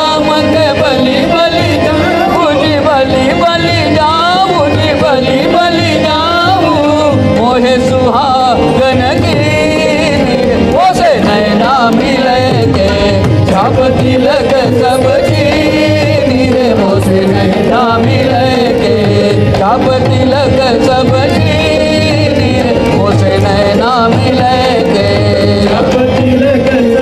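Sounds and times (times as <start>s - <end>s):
hand drums rhythm: 0.0s - 27.0s
harmonium and keyboards: 0.0s - 27.0s
voices singing: 0.0s - 27.0s.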